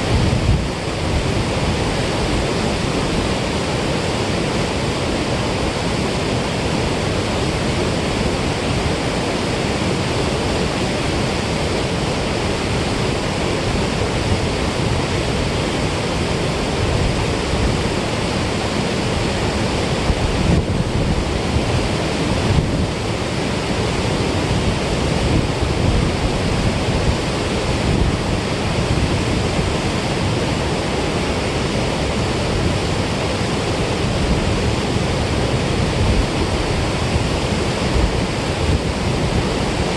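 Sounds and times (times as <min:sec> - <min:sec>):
water rushing through spillway: 0:00.0 - 0:39.9.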